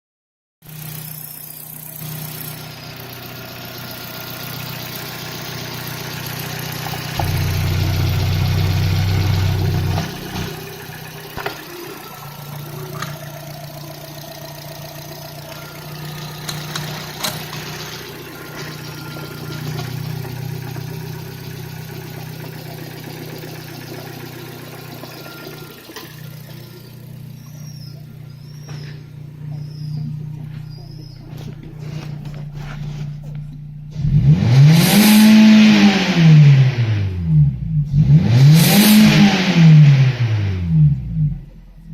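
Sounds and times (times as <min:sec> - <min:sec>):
car engine idling and revving: 0:00.6 - 0:41.9.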